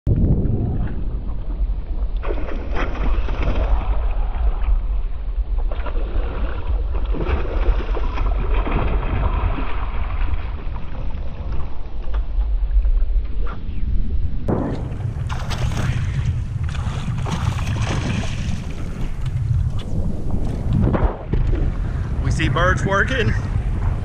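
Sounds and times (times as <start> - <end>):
water splashing against hull: 0.1 - 13.5, 14.5 - 24.0
wind buffeting microphone: 0.1 - 24.0.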